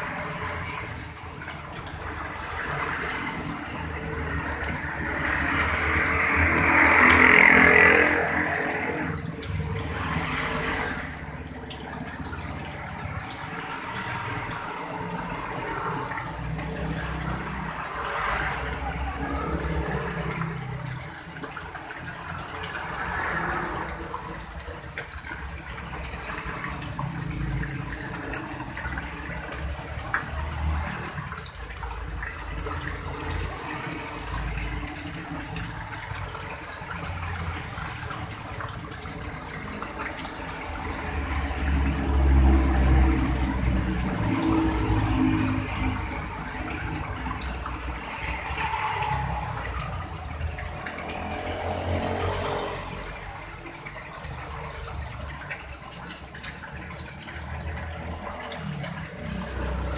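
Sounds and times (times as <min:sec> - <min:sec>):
water splashing into pond: 0:00.0 - 0:59.9.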